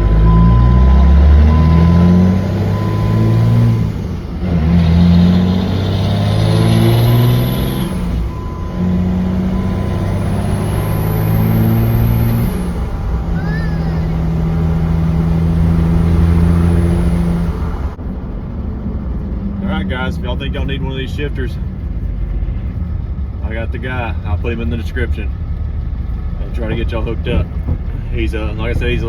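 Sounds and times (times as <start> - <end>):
truck engine shifting gears: 0.0 - 29.0.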